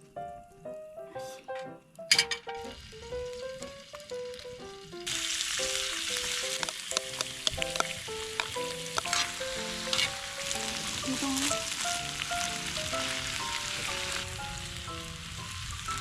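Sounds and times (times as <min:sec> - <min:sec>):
background music melody: 0:00.0 - 0:16.0
food sizzling in a pan: 0:02.5 - 0:16.0.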